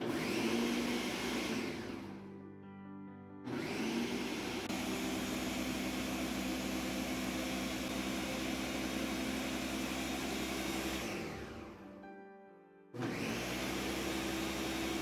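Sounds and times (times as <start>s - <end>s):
blender grinding: 0.0s - 2.2s, 3.5s - 11.8s, 13.0s - 15.0s.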